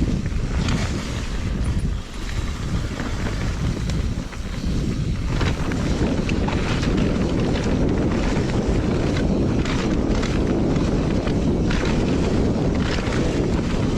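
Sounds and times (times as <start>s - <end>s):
bike tyres rattling on dirt: 0.0s - 13.9s
wind over microphone: 0.0s - 13.9s.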